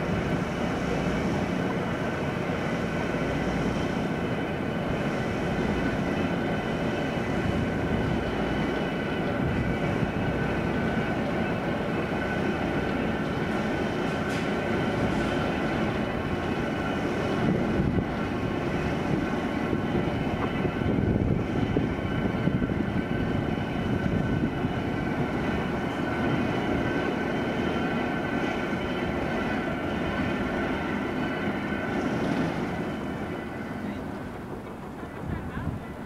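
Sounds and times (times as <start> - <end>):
bridge machinery rumbling: 0.0 - 36.0.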